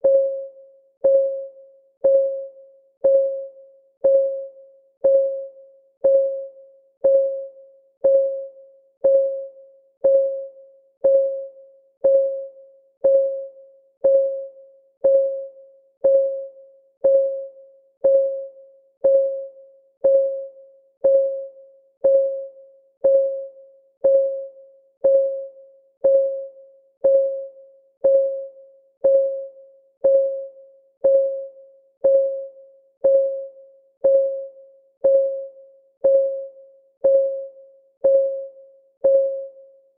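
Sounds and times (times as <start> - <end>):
timer clock ticking: 3.0 - 39.5.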